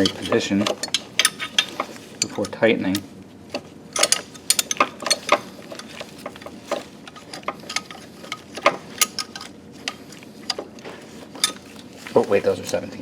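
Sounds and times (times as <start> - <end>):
hand tools clinking on bolts: 0.0 - 3.1, 4.0 - 10.8, 11.4 - 12.8.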